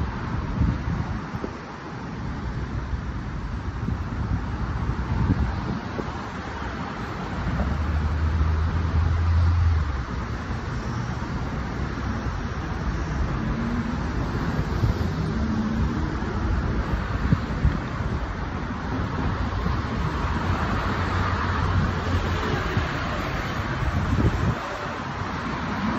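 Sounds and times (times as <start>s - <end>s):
cars passing: 0.0s - 25.9s
vehicle engine hum: 0.0s - 25.9s.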